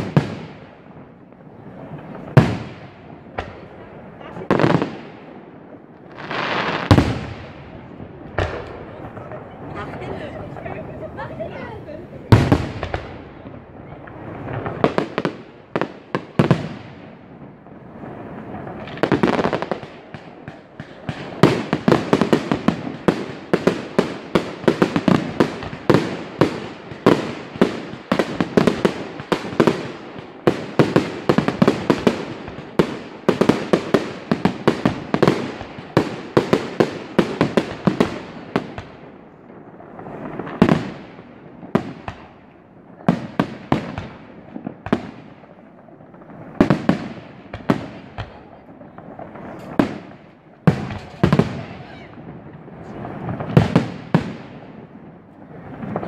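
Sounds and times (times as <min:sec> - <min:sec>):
aerial fireworks bursting: 0:00.0 - 0:56.0.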